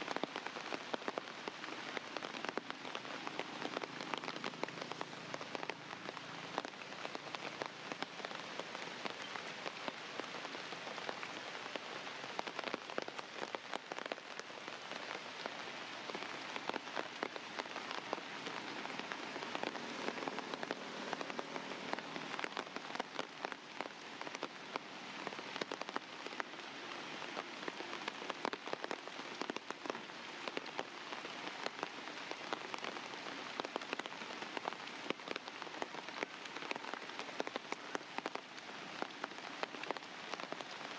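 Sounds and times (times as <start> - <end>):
rain drops hitting a surface: 0.0 - 40.9.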